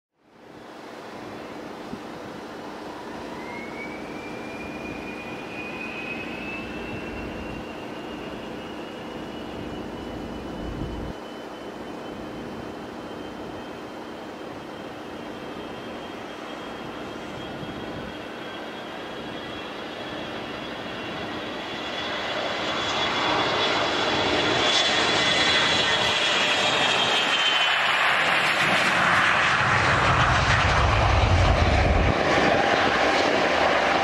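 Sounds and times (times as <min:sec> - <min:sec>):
jet engines hissing and whining: 0:00.2 - 0:34.0.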